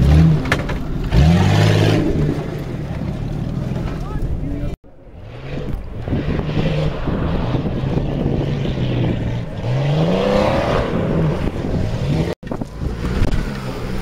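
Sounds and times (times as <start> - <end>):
truck engine under hard throttle: 0.0 - 14.0.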